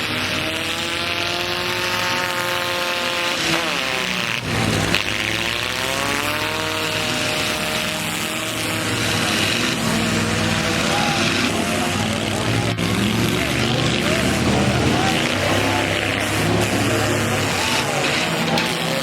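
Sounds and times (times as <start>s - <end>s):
truck engines revving hard: 0.0s - 19.0s.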